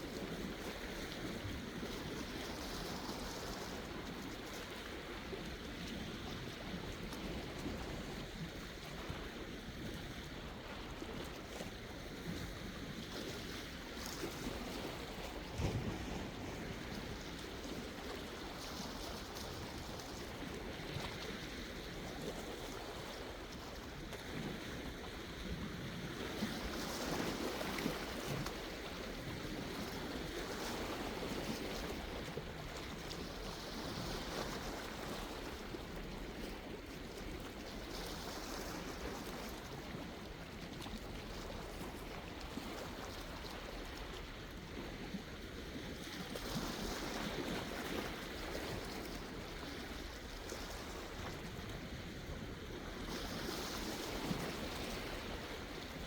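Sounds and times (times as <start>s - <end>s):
sea waves washing in and out: 7.3s - 56.0s.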